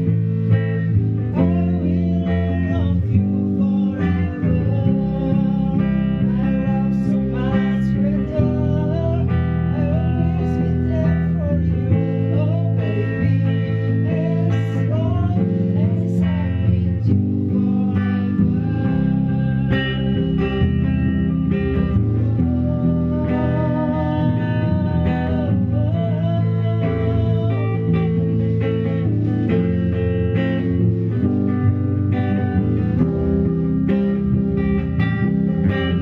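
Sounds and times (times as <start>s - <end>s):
guitar playing chords: 0.0s - 36.0s.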